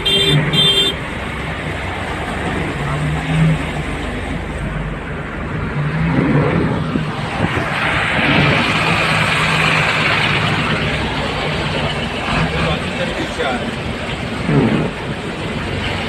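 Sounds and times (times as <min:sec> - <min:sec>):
vehicle engine humming: 0:00.0 - 0:16.0
rough wash of noise: 0:00.6 - 0:16.0.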